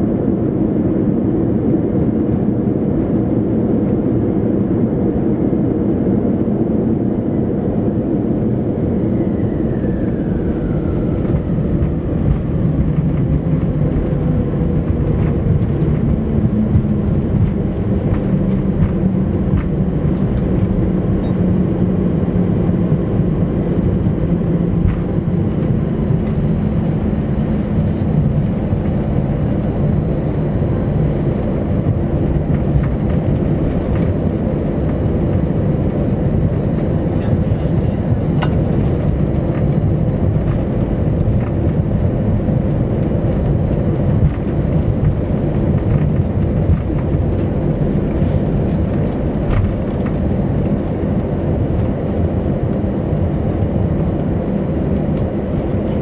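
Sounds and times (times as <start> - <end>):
aircraft cabin rumble: 0.0 - 56.0
low hum: 0.0 - 56.0.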